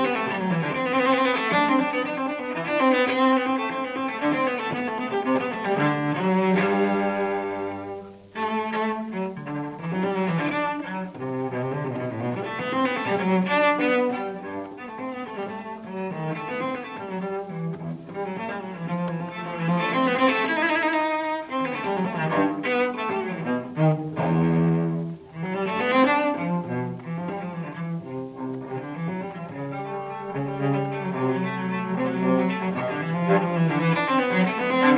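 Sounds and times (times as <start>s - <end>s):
bowed cello melody: 0.0s - 34.9s.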